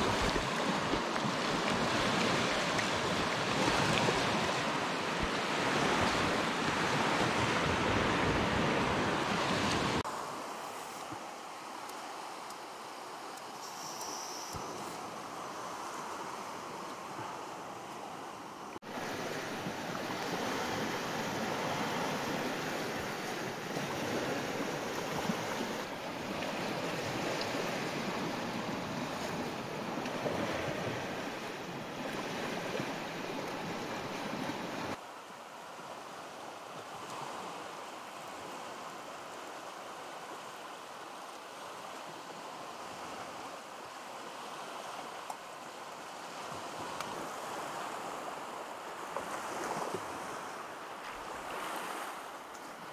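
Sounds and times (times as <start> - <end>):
waves washing onto sandy shore: 0.0 - 52.9
wind: 0.0 - 52.9.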